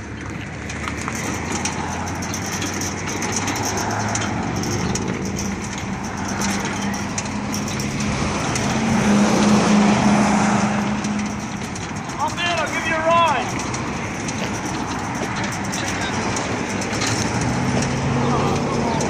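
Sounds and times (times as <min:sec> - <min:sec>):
tyres crunching on gritty pavement: 0:00.0 - 0:19.0.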